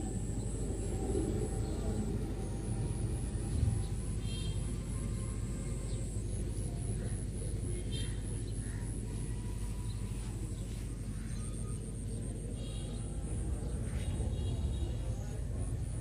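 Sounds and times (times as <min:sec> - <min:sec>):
faint bird chirps: 0:00.0 - 0:16.0
faint high regular pulsing: 0:00.0 - 0:16.0.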